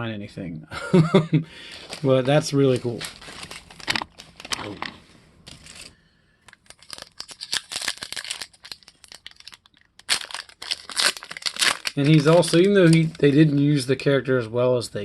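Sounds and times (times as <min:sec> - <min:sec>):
card pack wrapper crinkling: 0:01.7 - 0:13.8.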